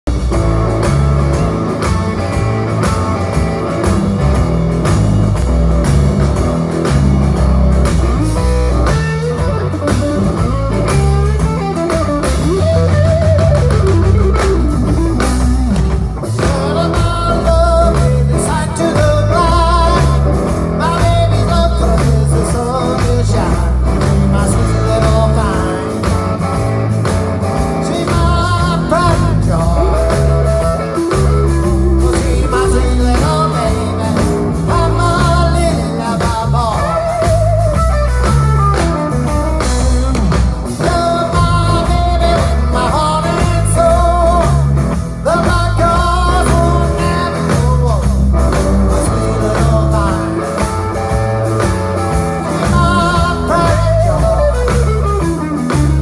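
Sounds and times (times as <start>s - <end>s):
drum kit: 0.0s - 56.0s
electric bass: 0.0s - 56.0s
electric guitar lead: 0.1s - 56.0s.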